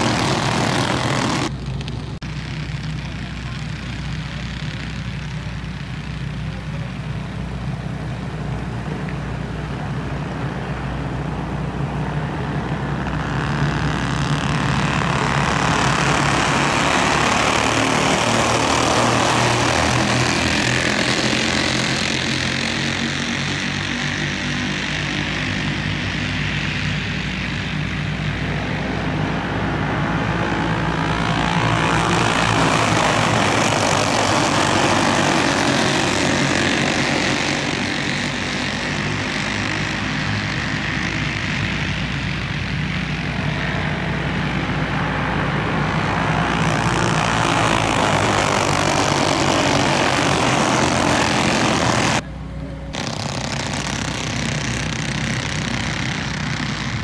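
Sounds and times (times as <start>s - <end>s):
go-kart engines droning: 0.0s - 57.0s.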